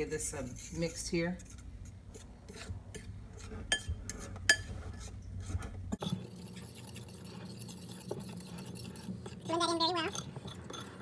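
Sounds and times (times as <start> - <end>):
utensil stirring batter in a bowl: 0.0 - 11.0.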